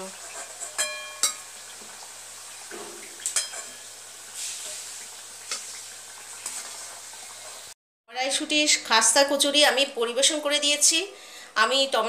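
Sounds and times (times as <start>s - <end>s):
deep-frying sizzle in oil: 0.0s - 11.0s.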